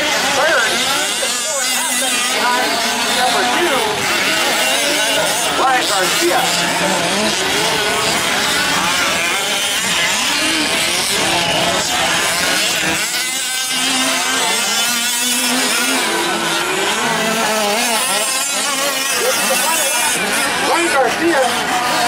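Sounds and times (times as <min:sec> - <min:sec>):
rc truck engines revving: 0:00.0 - 0:22.0.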